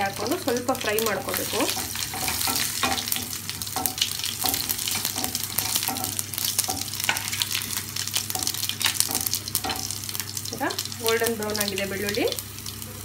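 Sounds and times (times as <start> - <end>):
garlic sizzling in hot oil: 0.0 - 13.0.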